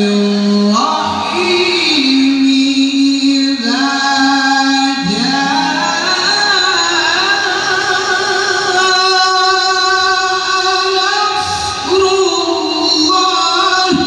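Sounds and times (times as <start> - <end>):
person chanting melodically: 0.0 - 14.0.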